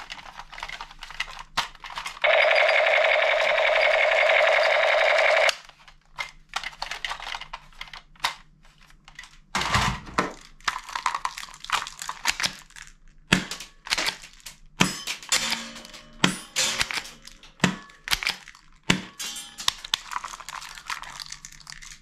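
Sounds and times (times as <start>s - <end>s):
plastic toy guns clattering: 0.0s - 22.0s.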